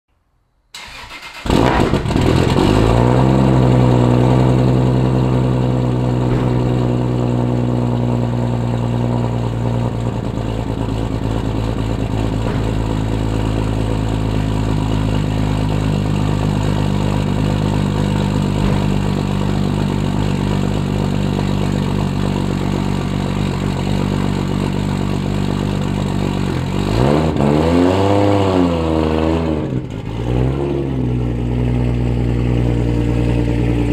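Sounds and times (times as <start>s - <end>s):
car engine idling and revving: 0.8s - 33.9s.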